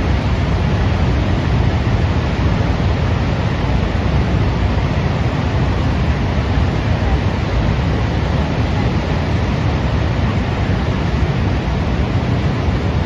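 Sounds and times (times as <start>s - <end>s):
flood water rushing and rumbling: 0.0s - 13.0s.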